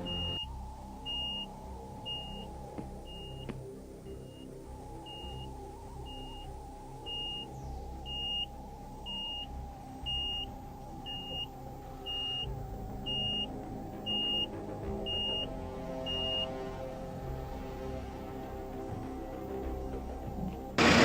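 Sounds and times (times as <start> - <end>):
steady low drone: 0.0 - 21.0.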